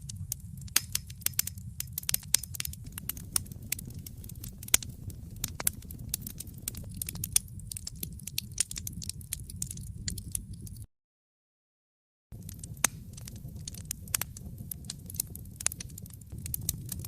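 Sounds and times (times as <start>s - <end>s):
low rumble: 0.0s - 10.9s, 12.4s - 17.0s
wood fire crackling and popping: 0.0s - 10.9s, 12.3s - 17.0s.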